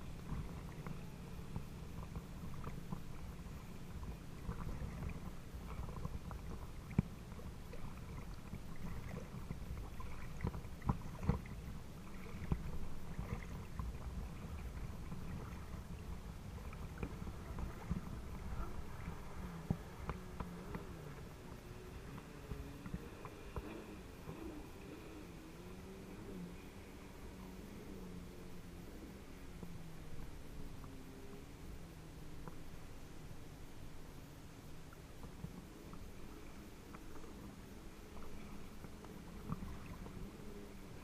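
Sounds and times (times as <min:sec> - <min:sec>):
steady low rumble: 0:00.0 - 0:41.0
water lapping and splashing: 0:00.0 - 0:41.0.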